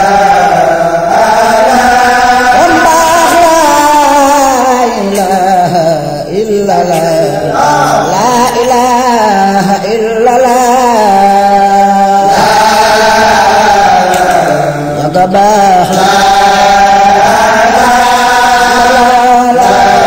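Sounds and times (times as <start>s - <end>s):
man chanting ornamented lines: 0.0s - 20.0s.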